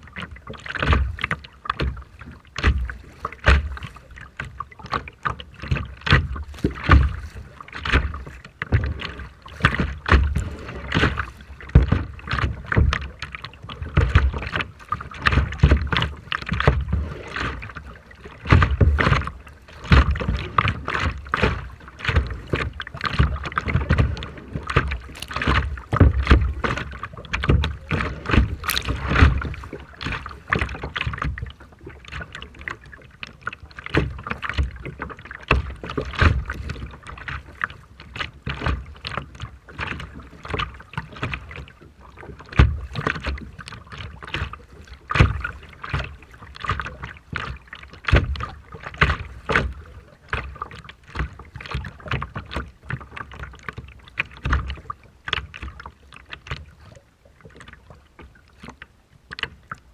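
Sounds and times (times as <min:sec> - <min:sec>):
sea water sloshing and splashing: 0:00.0 - 0:59.9.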